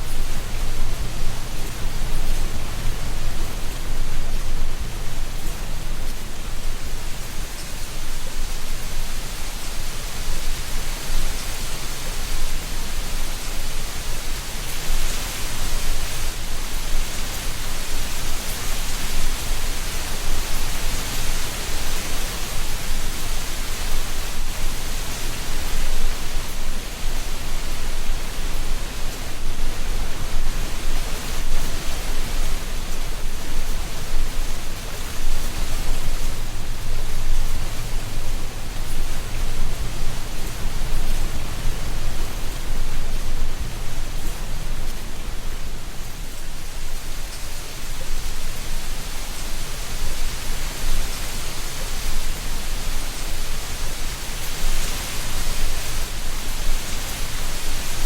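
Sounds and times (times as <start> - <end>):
wind rustling tree leaves: 0.0 - 58.0.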